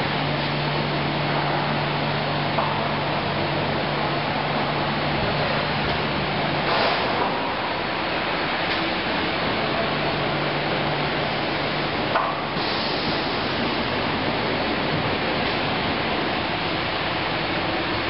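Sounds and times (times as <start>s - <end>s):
conveyor machinery noise: 0.0s - 18.0s.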